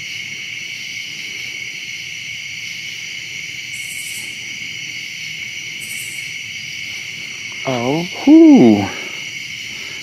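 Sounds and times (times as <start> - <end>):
crickets trilling: 0.0 - 10.0
high insect buzz: 0.0 - 10.0.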